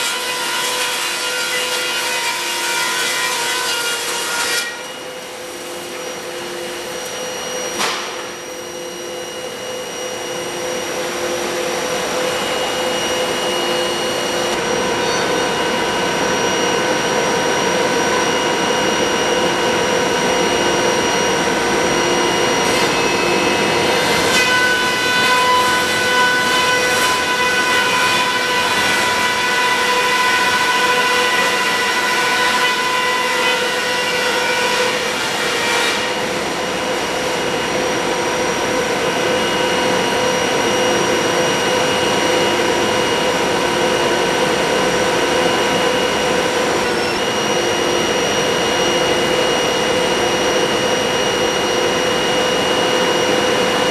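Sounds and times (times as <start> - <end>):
high whining cutter heads: 0.0 - 53.9
planer machine running: 0.0 - 53.9.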